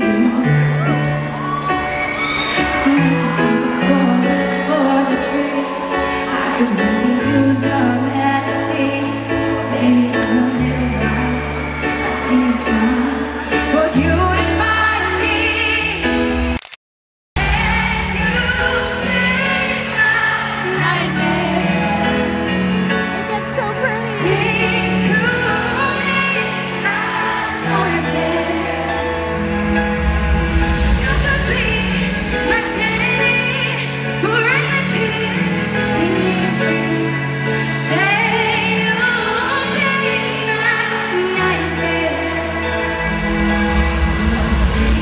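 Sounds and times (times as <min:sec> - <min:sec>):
woman singing: 0:00.0 - 0:01.2, 0:02.5 - 0:16.2, 0:17.4 - 0:22.6, 0:23.2 - 0:29.2, 0:31.0 - 0:45.0
piano: 0:00.0 - 0:16.8, 0:17.4 - 0:45.0.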